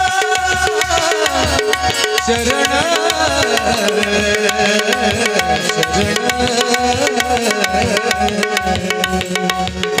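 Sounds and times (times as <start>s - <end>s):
hand drum rhythm: 0.0s - 10.0s
harmonium melody: 0.0s - 10.0s.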